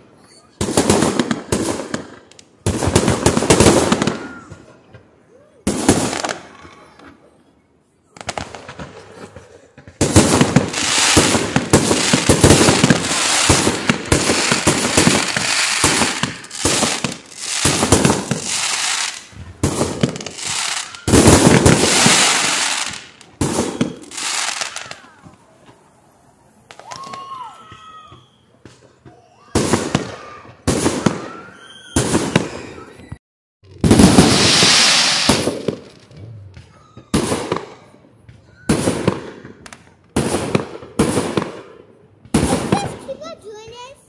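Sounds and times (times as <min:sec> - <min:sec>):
fireworks bangs and crackling: 0:00.1 - 0:07.3, 0:08.1 - 0:44.0.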